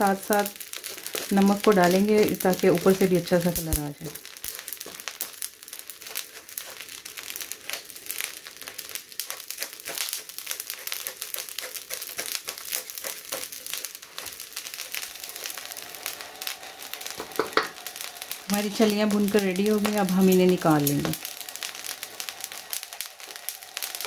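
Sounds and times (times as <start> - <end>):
salt grains crackling: 0.0 - 24.0
spatula scraping salt in wok: 0.6 - 3.6, 4.2 - 20.4.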